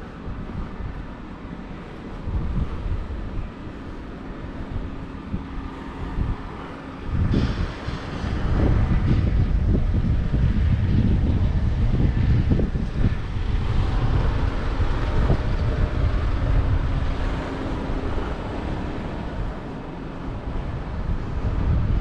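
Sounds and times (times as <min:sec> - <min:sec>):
low engine rumble: 0:00.0 - 0:22.0
wind buffeting microphone: 0:00.0 - 0:22.0.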